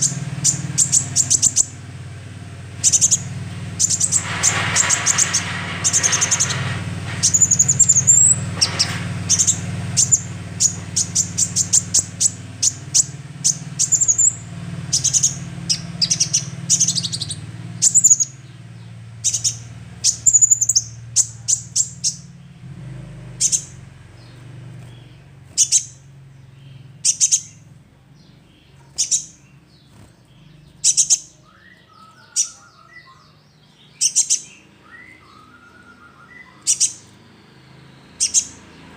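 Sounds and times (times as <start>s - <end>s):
young bird chirping: 0.0s - 1.8s, 2.8s - 22.5s, 23.4s - 37.3s, 37.9s - 38.9s.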